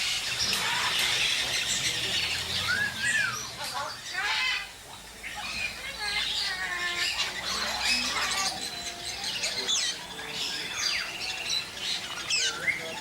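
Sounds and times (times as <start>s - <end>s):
flock of birds chirping: 0.0s - 13.0s.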